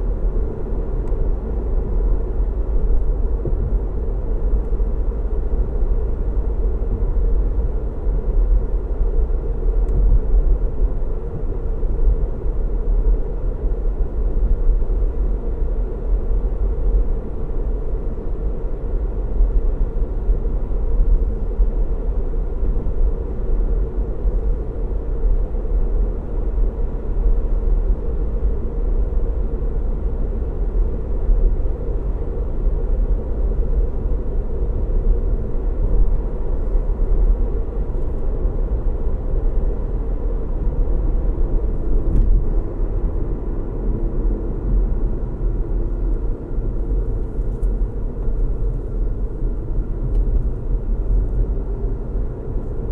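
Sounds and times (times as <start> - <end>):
car road noise rumble: 0.0 - 52.9.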